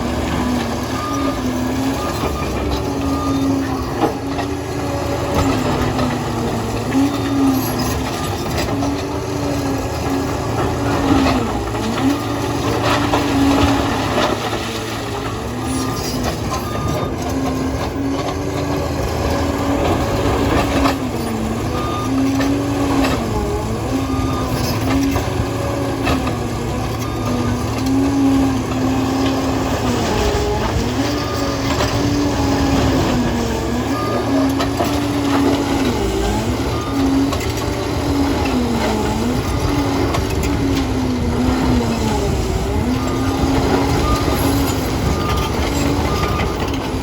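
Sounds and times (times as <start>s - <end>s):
dozer diesel engine running: 0.0s - 47.0s.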